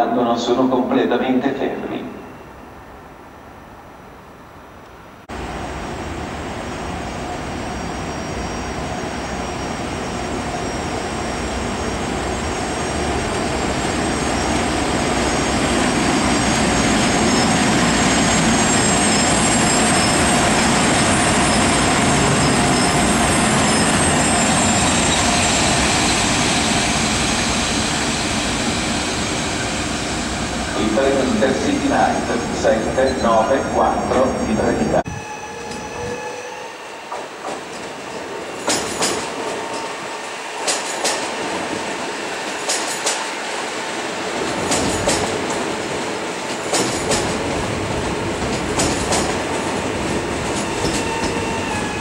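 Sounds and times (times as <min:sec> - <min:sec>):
electric locomotive rushing hum: 0:05.3 - 0:52.0.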